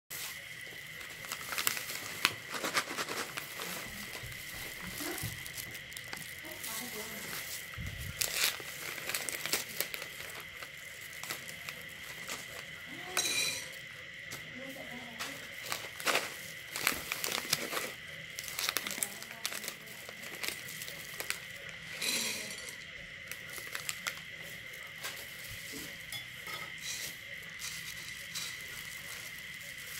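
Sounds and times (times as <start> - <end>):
plastic rustle: 0.1 - 26.1, 26.8 - 29.9
plastic snack packet crinkling: 0.2 - 26.0, 27.0 - 29.9.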